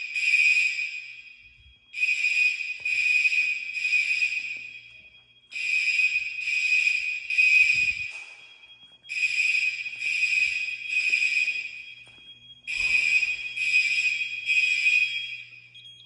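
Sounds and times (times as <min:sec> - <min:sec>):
fire alarm bell ringing: 0:00.0 - 0:16.0.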